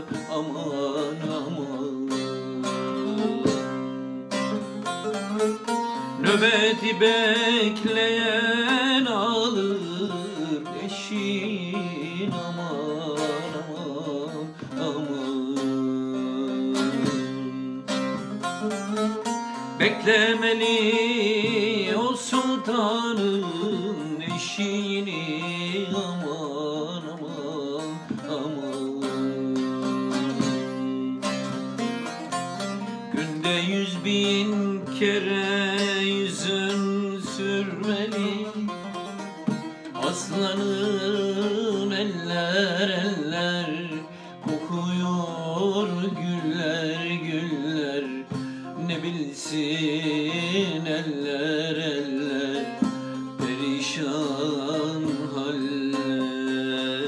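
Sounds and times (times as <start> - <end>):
long-necked lute strummed and plucked: 0.0 - 57.0.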